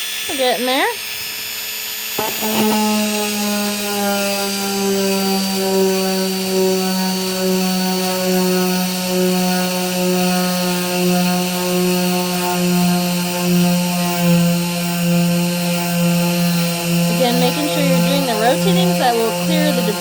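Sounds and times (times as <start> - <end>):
rotary tool grinding into stone: 2.0 - 20.0.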